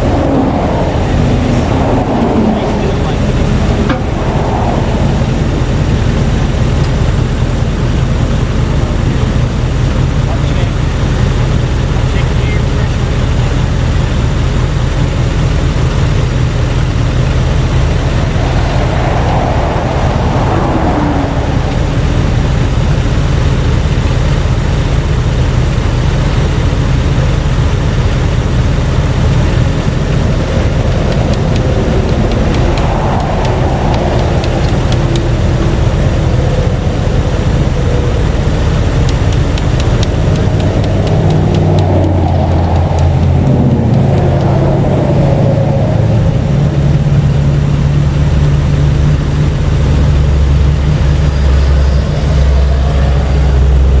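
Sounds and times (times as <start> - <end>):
highway traffic noise: 0.0 - 54.0
vehicles passing at speed: 0.0 - 54.0.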